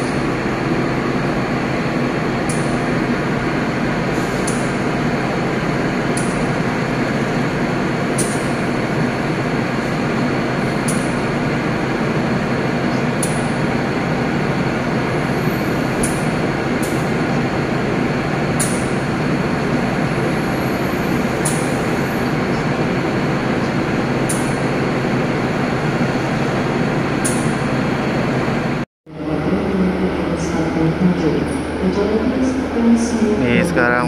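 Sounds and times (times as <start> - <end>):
train wheels rumbling on rails: 0.0 - 28.8.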